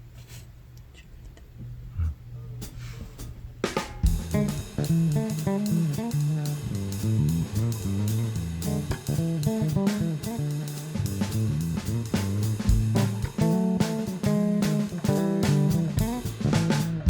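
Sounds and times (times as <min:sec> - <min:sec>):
band music with bass guitar and drums: 0:02.6 - 0:17.0.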